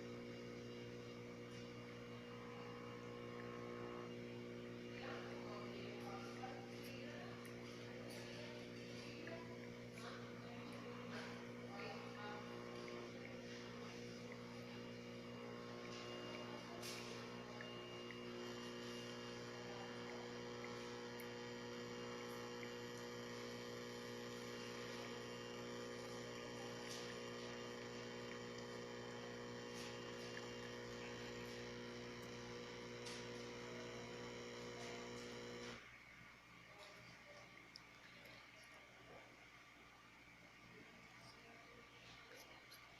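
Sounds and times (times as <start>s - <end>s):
coffee machine pump humming: 0.0s - 42.9s.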